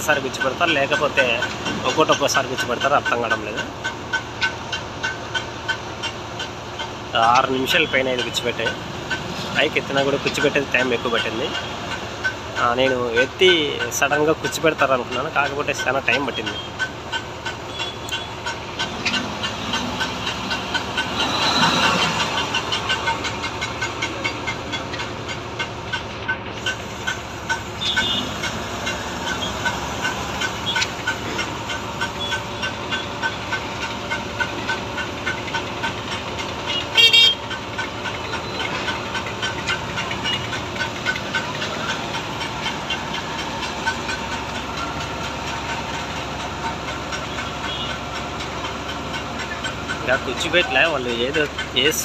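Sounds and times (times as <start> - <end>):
fast regular ticking: 0.0 - 52.0
heavy machinery running: 0.0 - 52.0
traffic noise: 0.0 - 52.0.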